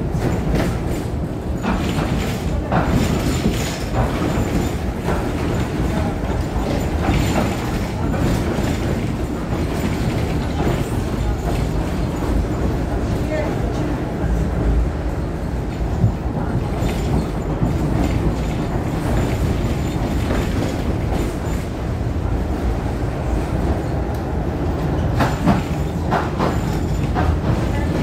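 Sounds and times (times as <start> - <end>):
tram wheels rumbling: 0.0 - 28.0.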